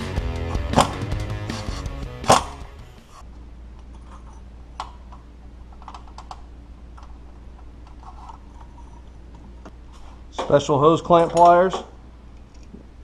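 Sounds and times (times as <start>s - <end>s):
low steady hum: 2.1s - 13.0s.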